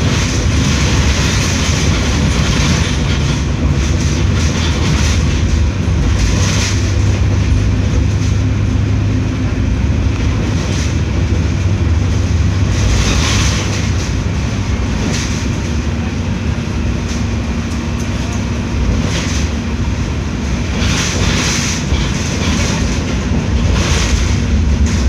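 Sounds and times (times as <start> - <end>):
diesel bus engine humming: 0.0 - 25.0
vehicle rattling: 0.0 - 25.0.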